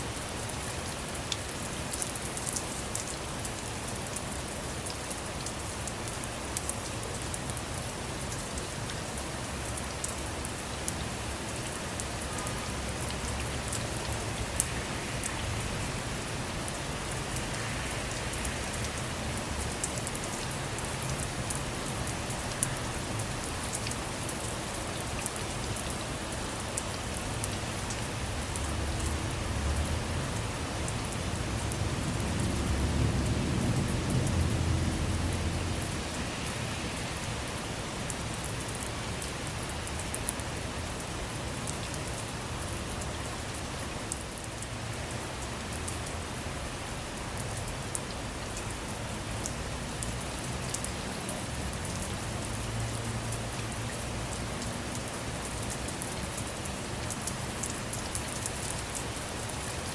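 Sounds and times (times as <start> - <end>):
rain falling on a car: 0.0 - 59.9.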